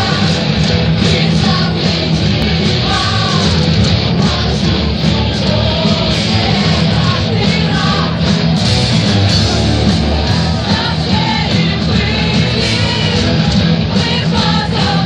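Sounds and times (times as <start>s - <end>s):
distorted electric guitars: 0.0s - 15.0s
heavy bass: 0.0s - 15.0s
many voices shout-singing: 0.0s - 15.0s.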